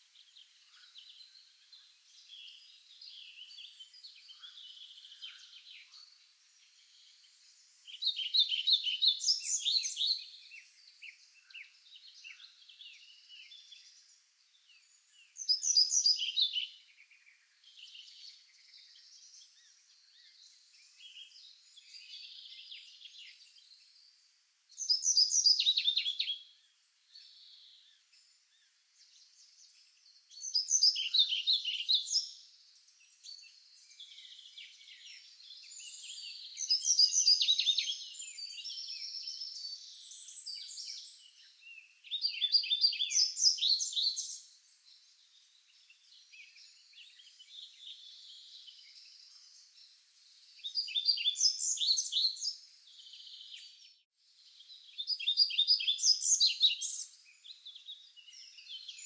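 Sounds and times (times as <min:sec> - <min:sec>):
other birds chirping: 0:00.1 - 0:59.0.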